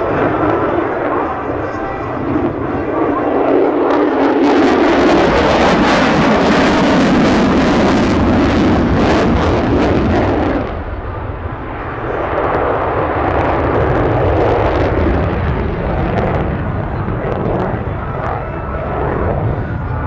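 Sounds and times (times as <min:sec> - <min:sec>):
jet engine in flight: 0:00.0 - 0:20.0.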